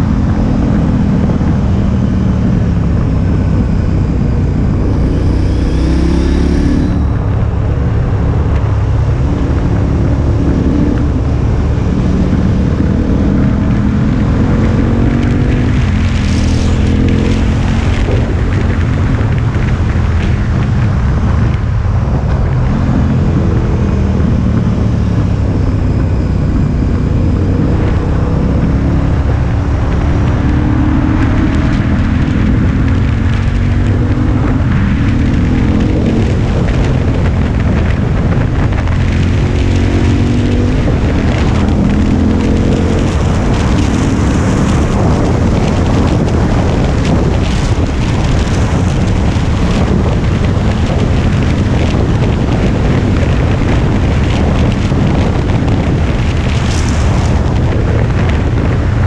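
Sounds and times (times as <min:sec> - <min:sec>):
motorcycle engine accelerating: 0:00.0 - 0:59.0
wind rushing over microphone: 0:00.0 - 0:59.0.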